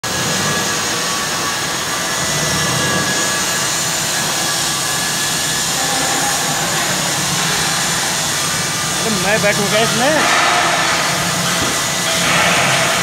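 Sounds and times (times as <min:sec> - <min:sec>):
low machine hum: 0:00.1 - 0:13.0
machine whirring hiss: 0:00.2 - 0:13.0.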